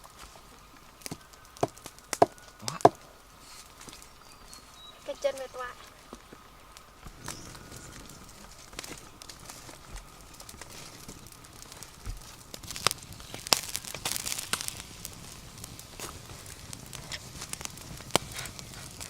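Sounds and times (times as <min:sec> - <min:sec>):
sharp snaps: 0:00.0 - 0:04.2, 0:05.2 - 0:19.0
crackling and rustling: 0:00.0 - 0:19.0.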